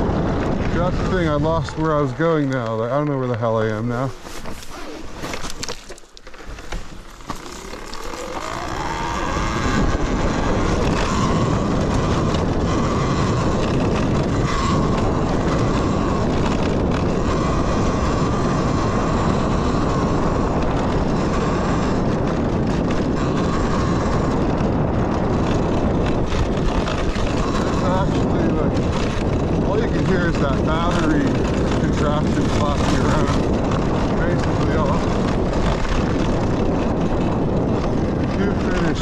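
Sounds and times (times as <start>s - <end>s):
electric dirt bike motor whine: 0.0s - 3.4s, 4.7s - 39.0s
wind rushing on microphone: 0.0s - 5.8s, 6.8s - 39.0s.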